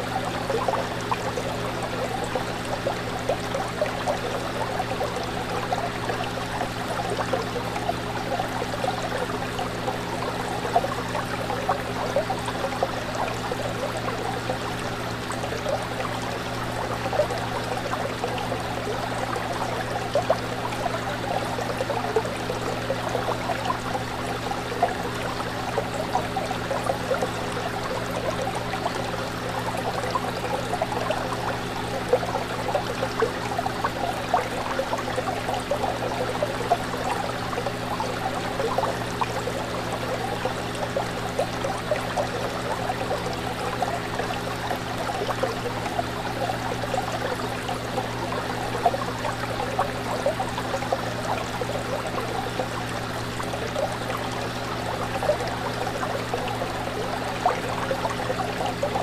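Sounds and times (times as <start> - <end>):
fish tank water bubbling: 0.0 - 59.0
small water splashes: 0.0 - 59.0.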